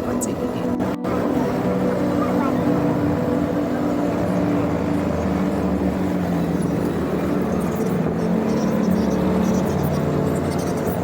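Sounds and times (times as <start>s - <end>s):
motorcycle engine running: 0.8s - 11.0s.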